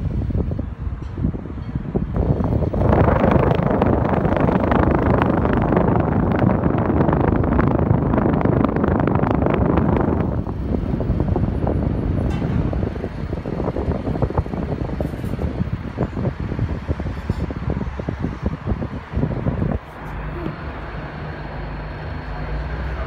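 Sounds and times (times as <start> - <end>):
condenser fan whooshing: 0.0 - 23.0
wind noise on microphone: 0.0 - 23.0.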